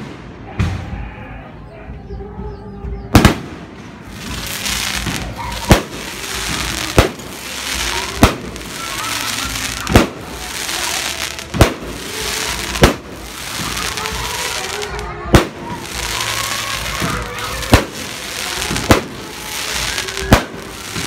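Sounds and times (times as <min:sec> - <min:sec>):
crackling hiss of fireworks: 0:00.0 - 0:00.6, 0:03.2 - 0:21.0.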